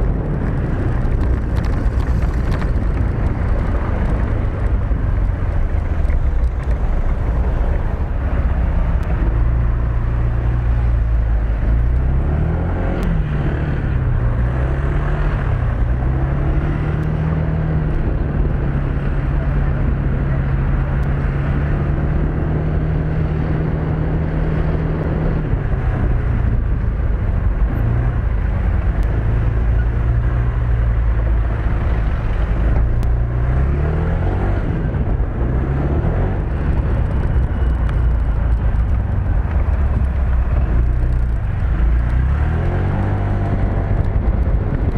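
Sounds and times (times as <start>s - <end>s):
steady rush of noise: 0.0s - 44.9s.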